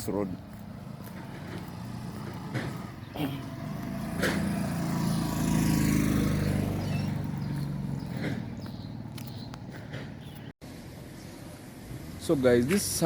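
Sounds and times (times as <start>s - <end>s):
vehicle engine passing by: 0.4s - 12.6s.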